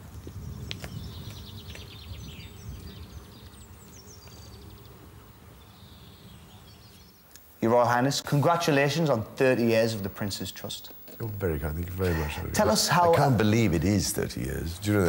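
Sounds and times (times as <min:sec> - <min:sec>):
birds chirping and singing: 0:00.1 - 0:15.0.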